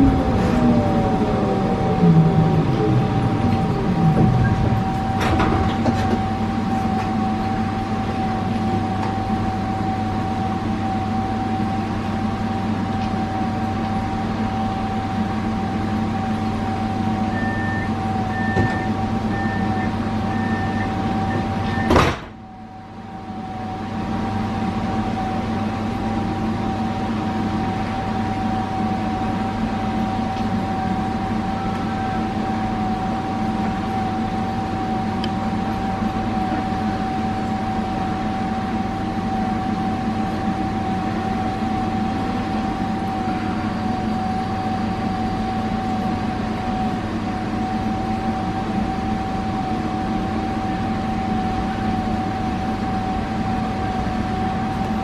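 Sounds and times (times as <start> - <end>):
tram interior hum and whine: 0.0 - 55.0.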